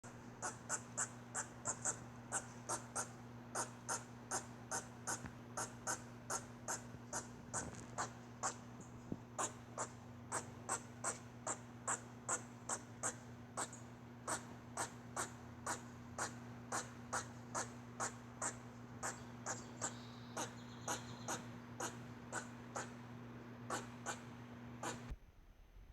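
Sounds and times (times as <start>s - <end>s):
squirrel calling: 0.4s - 8.6s, 9.4s - 23.0s, 23.7s - 25.1s.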